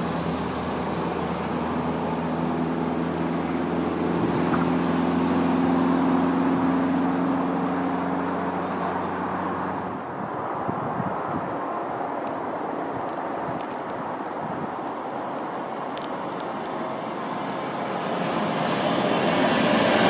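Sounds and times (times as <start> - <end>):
diesel train engine drone: 0.0 - 20.0.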